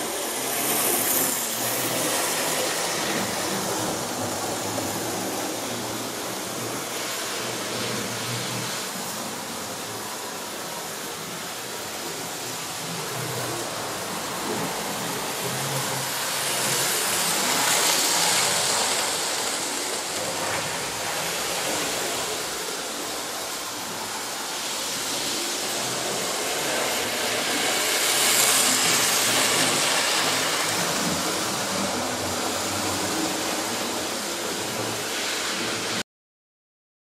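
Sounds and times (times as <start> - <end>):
model trains running on track: 0.0 - 36.0.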